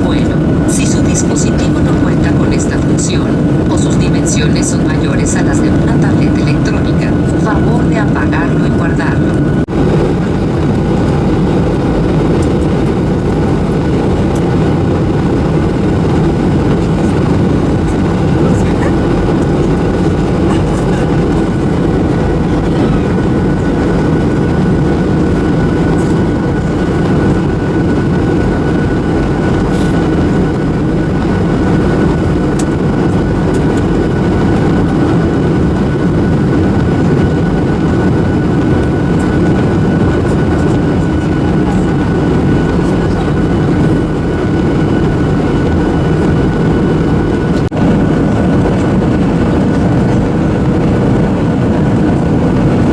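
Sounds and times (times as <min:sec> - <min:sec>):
airliner cabin airflow rush: 0:00.0 - 0:52.9
thin steady whine: 0:00.0 - 0:52.9.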